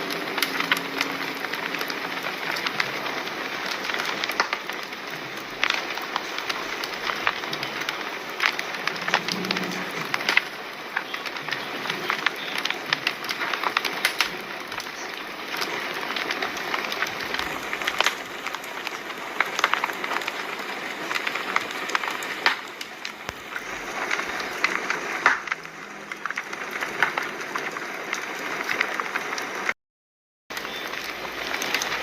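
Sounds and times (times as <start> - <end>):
fire crackling and popping: 0.0 - 29.8, 30.5 - 32.0.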